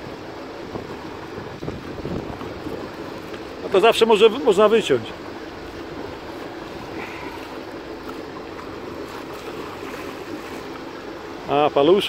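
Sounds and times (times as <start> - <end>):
faint steady hum: 0.0 - 12.0
sea noise: 0.0 - 12.0
wind: 0.0 - 12.0.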